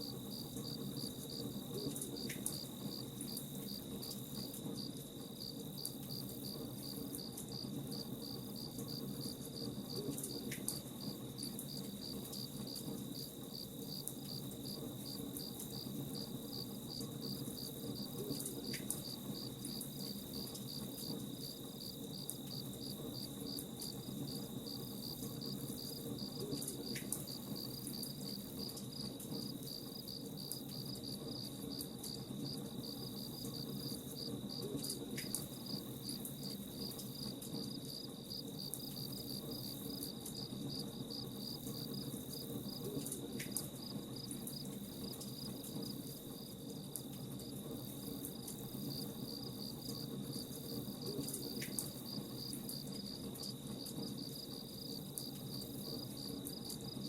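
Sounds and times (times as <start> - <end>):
crickets chirping: 0.0 - 57.0
low steady hiss: 0.0 - 57.0
campfire crackles: 0.1 - 56.9.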